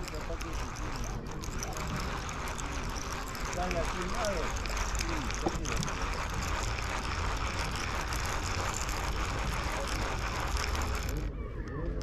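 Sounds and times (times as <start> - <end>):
fishing reel whirring: 0.0 - 12.0.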